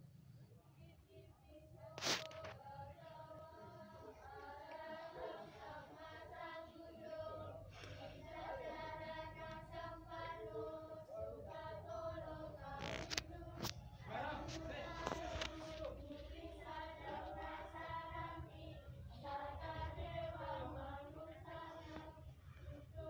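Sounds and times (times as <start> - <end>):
group singing in unison: 1.6 - 23.0.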